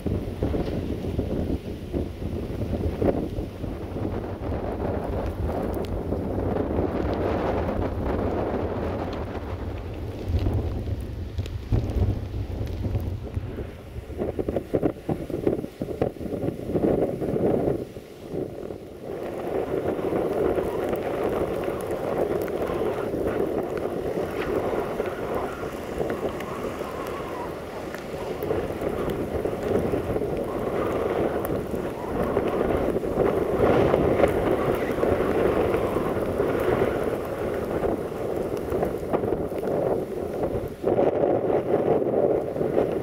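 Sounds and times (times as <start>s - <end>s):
gusty wind buffeting microphone: 0.0s - 43.0s.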